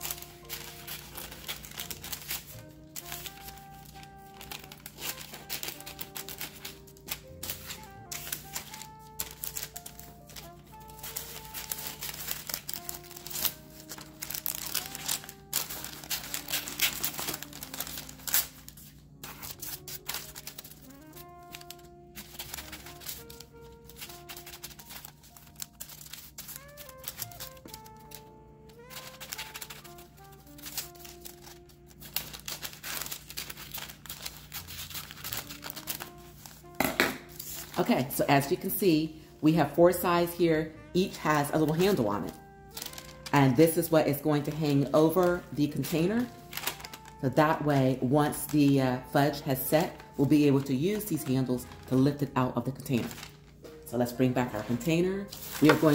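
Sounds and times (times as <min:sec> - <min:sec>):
scissors cutting paper: 0:00.0 - 0:37.9, 0:41.4 - 0:52.2, 0:52.9 - 0:53.6, 0:55.3 - 0:55.9
paper crinkling: 0:00.0 - 0:38.8, 0:41.3 - 0:53.8, 0:54.4 - 0:55.9
soft background music: 0:00.0 - 0:55.9.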